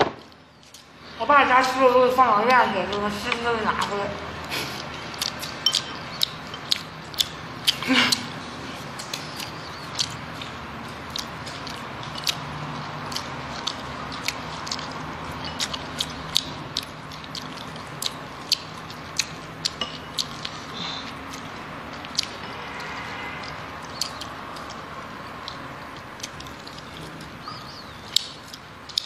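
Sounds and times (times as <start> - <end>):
mouth eating clicks and smacks: 0.2 - 1.0, 2.4 - 29.0.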